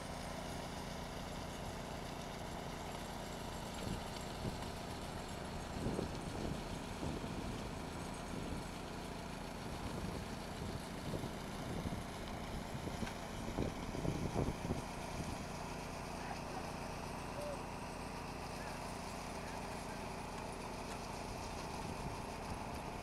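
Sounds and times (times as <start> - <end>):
small gasoline engine running: 0.0 - 23.0.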